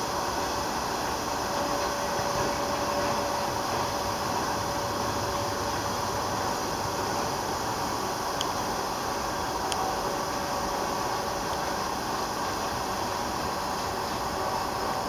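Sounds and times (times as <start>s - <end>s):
train wheels on rail: 0.0s - 15.0s.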